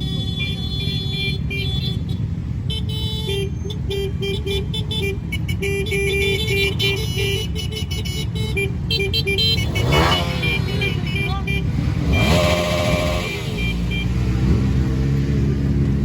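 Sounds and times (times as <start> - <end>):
vehicle horns blasting: 0.0 - 14.8
motorcycles and cars exhaust noise: 0.0 - 16.0.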